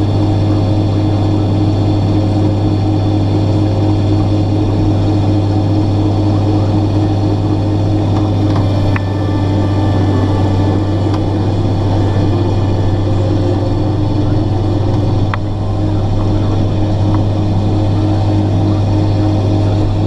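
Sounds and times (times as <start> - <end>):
combine harvester engine drone: 0.0 - 20.0.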